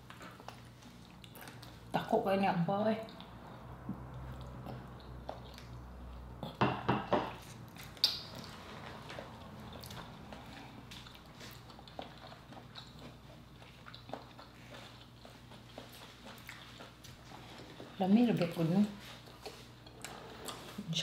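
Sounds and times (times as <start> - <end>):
person chewing with wet mouth smacks: 0.0 - 1.8, 3.0 - 6.6, 7.3 - 17.9, 19.1 - 20.7.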